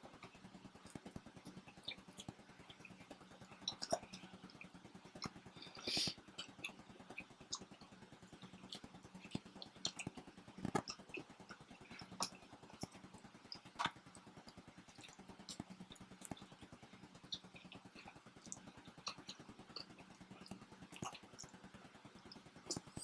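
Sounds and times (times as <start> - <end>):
low steady hum: 0.0 - 23.0
people chewing: 0.2 - 21.6, 22.3 - 23.0.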